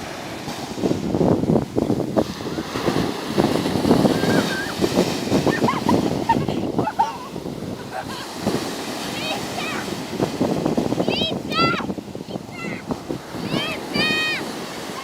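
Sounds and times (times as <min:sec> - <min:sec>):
surf rushing on beach: 0:00.0 - 0:15.0
wind buffeting microphone: 0:00.0 - 0:15.0.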